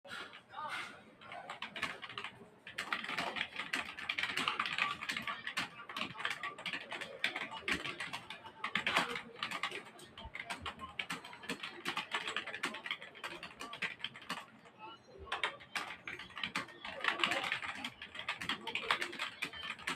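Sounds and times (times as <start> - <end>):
fast keyboard typing: 1.2 - 19.9.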